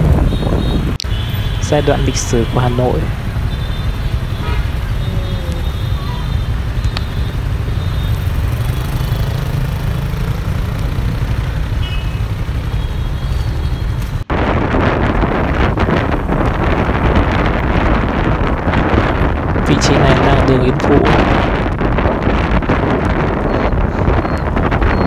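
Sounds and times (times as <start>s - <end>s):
motorbike and car engines rumbling: 0.0s - 25.0s
road noise: 0.0s - 25.0s
wind buffeting microphone: 0.0s - 25.0s.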